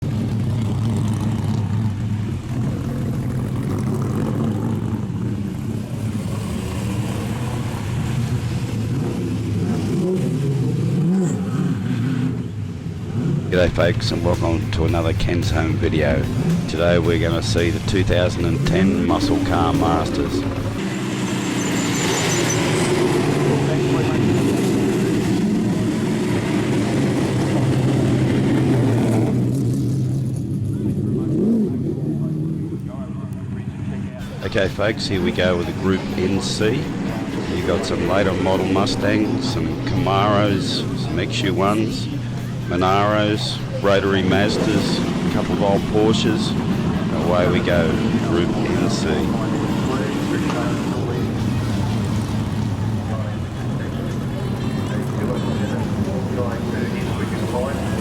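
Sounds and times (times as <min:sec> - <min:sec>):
racing car engines droning: 0:00.0 - 0:58.0.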